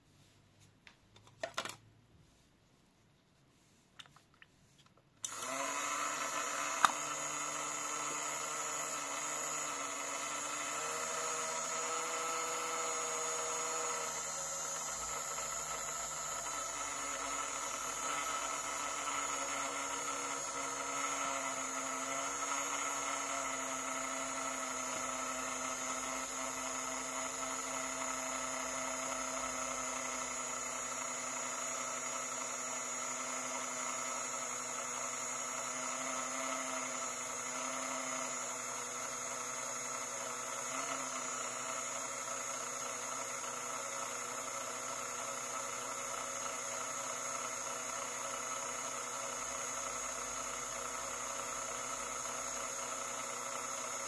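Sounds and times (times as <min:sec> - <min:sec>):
electric motor humming: 0:05.2 - 0:54.0.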